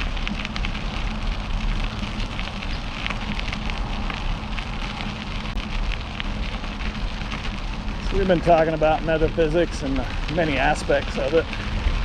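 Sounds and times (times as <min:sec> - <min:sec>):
bike tyres crackling on trail: 0:00.0 - 0:12.0
wind rumble on microphone: 0:00.0 - 0:12.0.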